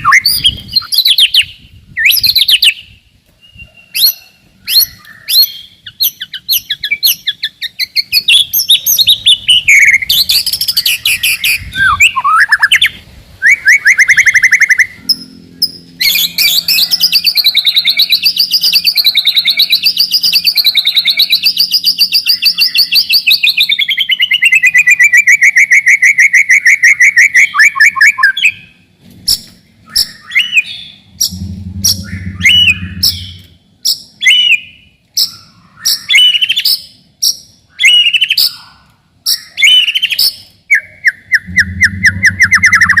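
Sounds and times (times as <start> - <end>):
songbird singing: 0.0 - 43.0.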